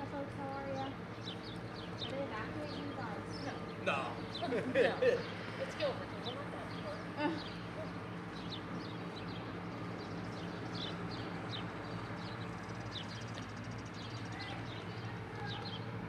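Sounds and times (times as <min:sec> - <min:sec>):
low engine hum: 0:00.0 - 0:16.0
small birds chirping: 0:00.0 - 0:16.0.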